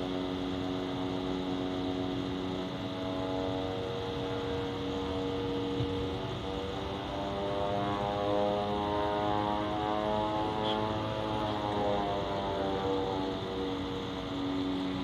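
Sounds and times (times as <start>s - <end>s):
drone from the sky: 0.0s - 15.0s.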